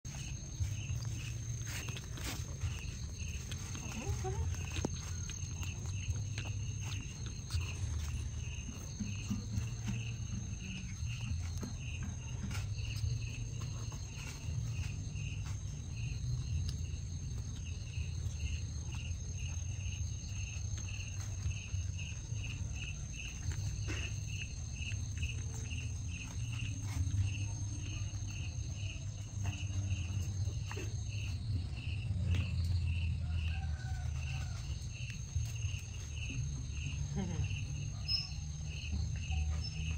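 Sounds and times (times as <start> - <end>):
insects chirping: 0.1 - 39.9.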